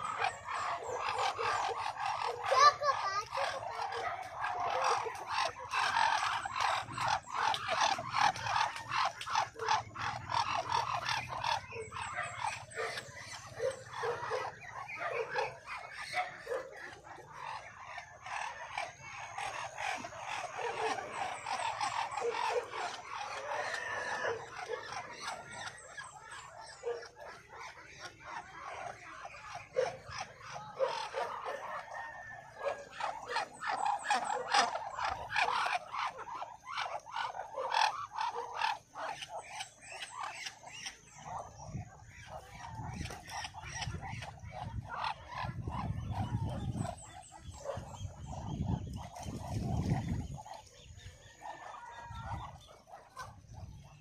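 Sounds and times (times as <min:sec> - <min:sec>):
ducks calling: 0:00.0 - 0:54.0.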